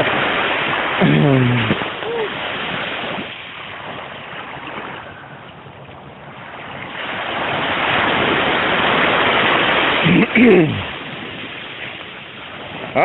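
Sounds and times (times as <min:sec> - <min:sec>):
surf washing up the beach: 0:00.0 - 0:13.0.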